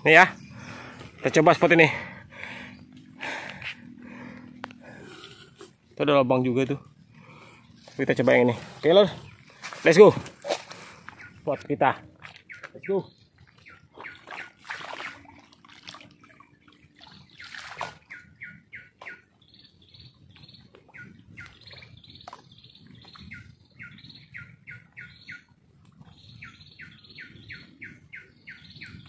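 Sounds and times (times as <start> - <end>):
songbird chirping: 0.0 - 29.0.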